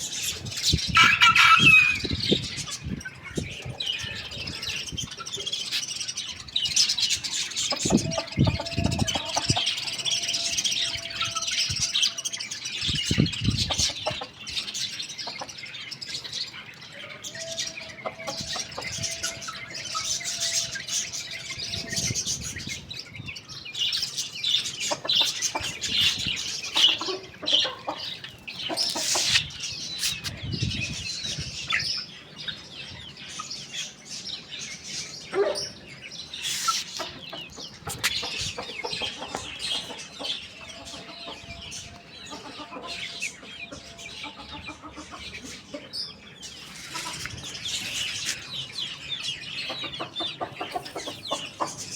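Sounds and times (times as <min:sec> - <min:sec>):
chickens clucking: 0:00.0 - 0:06.0, 0:06.7 - 0:22.9, 0:24.0 - 0:32.7, 0:35.2 - 0:51.9.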